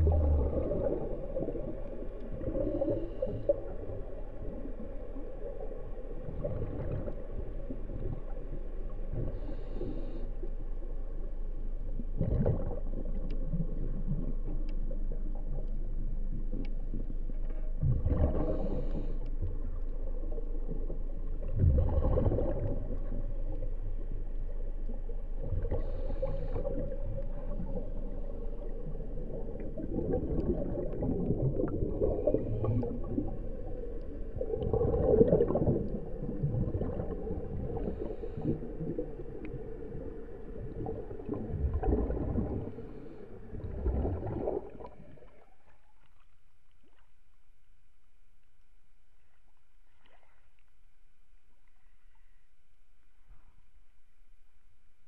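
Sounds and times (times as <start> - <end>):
low rumble: 0.0 - 45.6
underwater bubbling and gurgling: 0.0 - 55.0.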